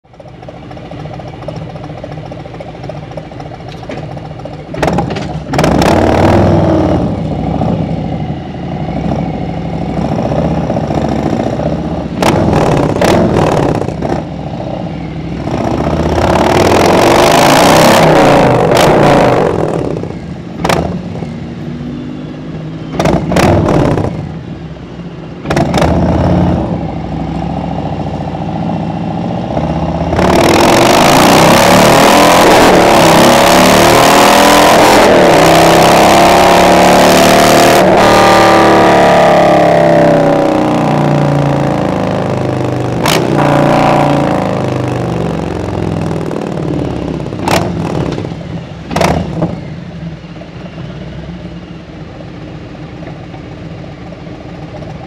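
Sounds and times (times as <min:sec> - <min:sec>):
motorcycle engine revving: 0:00.1 - 0:24.6, 0:25.4 - 0:50.4.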